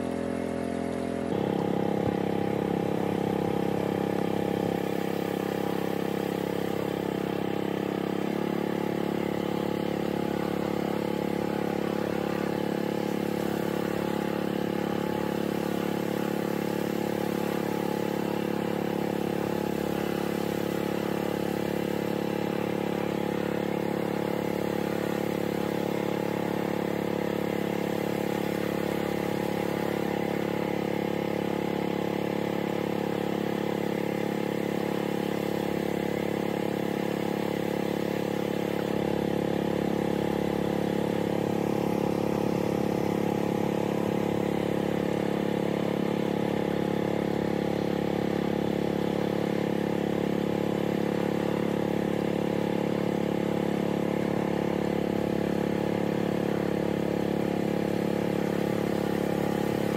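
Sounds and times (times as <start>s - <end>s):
small boat engine running: 0.0s - 59.9s.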